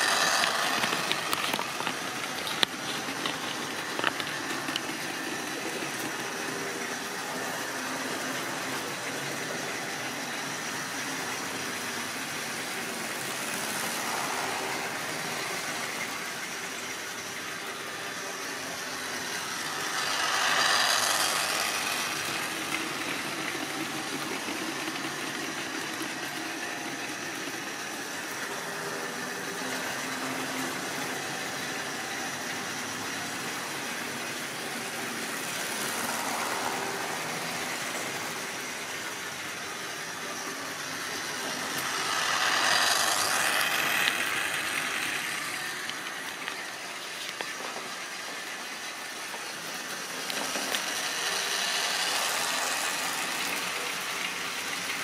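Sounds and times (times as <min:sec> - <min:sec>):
model train motor whirring: 0:00.0 - 0:55.0
wheels running on rails: 0:00.0 - 0:55.0.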